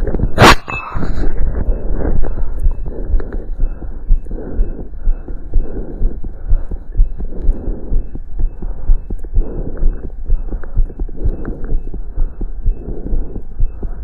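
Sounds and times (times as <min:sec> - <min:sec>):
fast heartbeat through stethoscope: 0:00.0 - 0:14.0.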